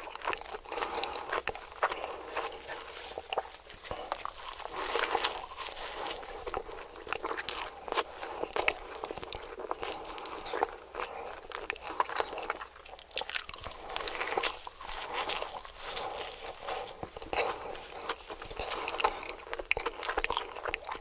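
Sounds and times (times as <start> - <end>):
person chewing crispy food: 0.0 - 21.0.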